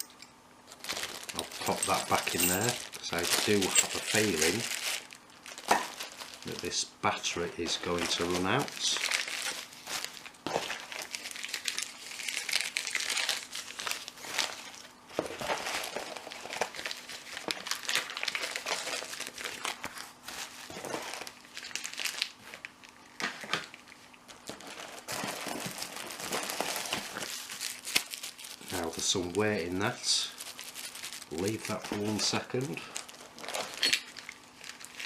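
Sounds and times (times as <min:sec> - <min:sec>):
packing paper crumpling: 0:00.7 - 0:35.0.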